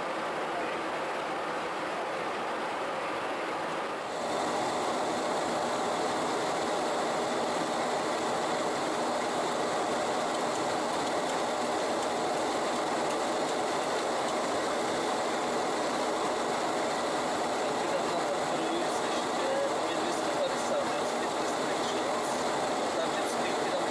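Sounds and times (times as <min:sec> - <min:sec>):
airplane cockpit airflow rush: 0:01.0 - 0:23.9.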